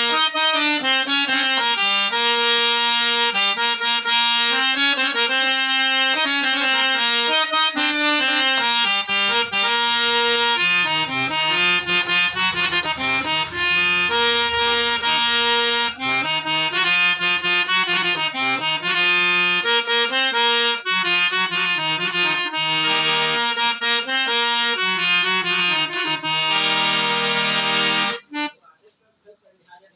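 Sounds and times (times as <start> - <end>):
harmonium playing melody: 0.0 - 29.9.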